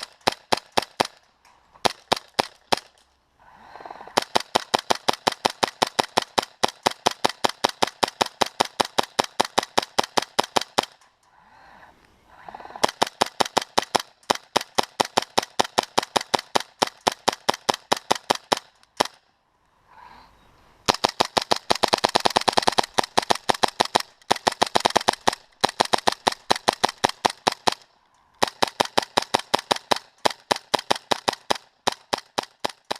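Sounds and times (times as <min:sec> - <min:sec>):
airsoft pistol rapid shots: 0:00.0 - 0:01.2, 0:01.8 - 0:03.0, 0:04.1 - 0:11.0, 0:12.8 - 0:19.2, 0:20.8 - 0:32.9.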